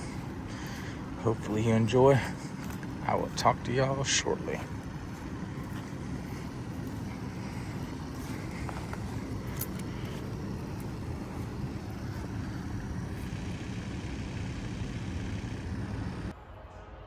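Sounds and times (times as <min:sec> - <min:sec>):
skid steer engine rumbling: 0:00.0 - 0:16.3.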